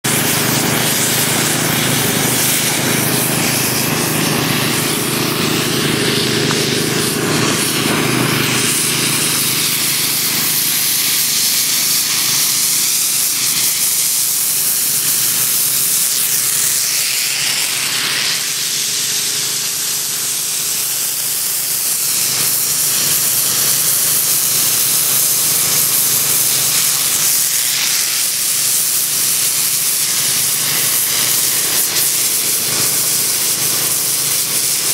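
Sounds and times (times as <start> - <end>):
air lance hissing: 0.0 - 34.9.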